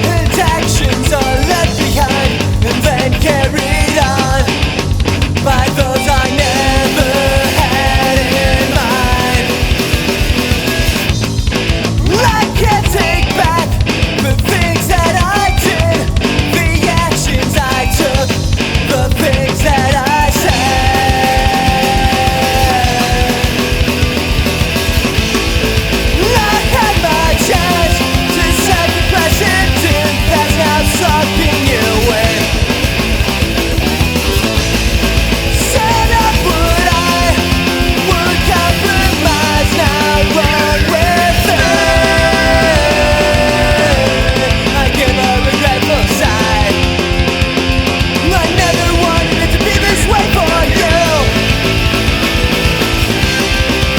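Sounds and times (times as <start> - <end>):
loud rock music: 0.0 - 53.9.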